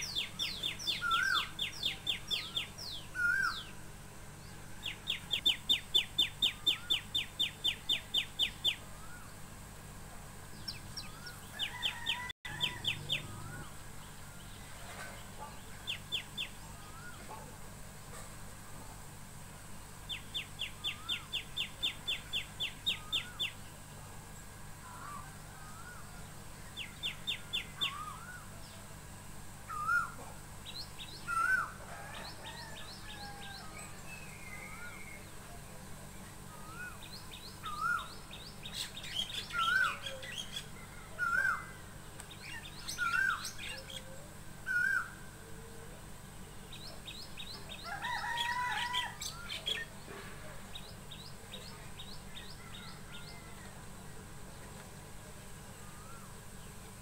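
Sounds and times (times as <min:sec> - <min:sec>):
birds chattering: 0:00.0 - 0:09.5, 0:10.4 - 0:18.2, 0:20.0 - 0:23.9, 0:29.7 - 0:54.9
birds calling: 0:00.0 - 0:09.6, 0:10.4 - 0:18.2, 0:20.0 - 0:28.9, 0:29.7 - 0:35.4, 0:36.2 - 0:54.8.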